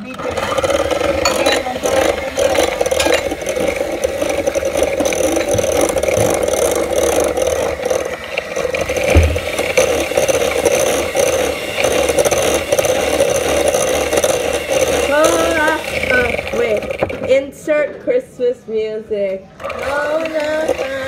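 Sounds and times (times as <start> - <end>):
electric mixer beating batter: 0.0 - 17.5, 19.6 - 21.0.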